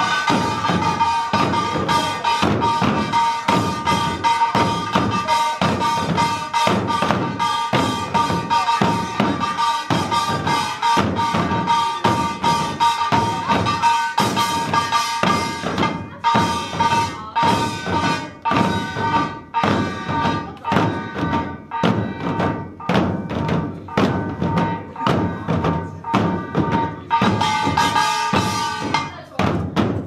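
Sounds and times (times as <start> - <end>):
barrel drums beaten fast: 0.0 - 30.0.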